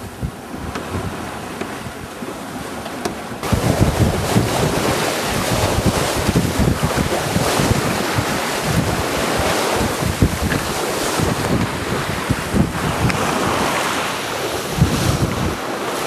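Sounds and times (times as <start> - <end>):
water splashing along boat hull: 0.0 - 16.0
wind buffeting microphone: 0.0 - 16.0.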